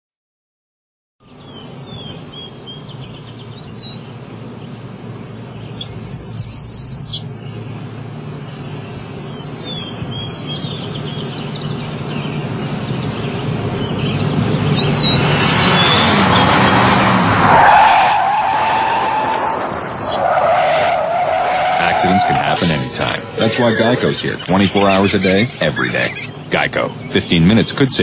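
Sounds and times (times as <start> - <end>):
small birds chirping: 1.2 - 17.5, 19.1 - 20.3, 21.8 - 28.0
steady low hum: 1.3 - 17.4, 21.0 - 28.0.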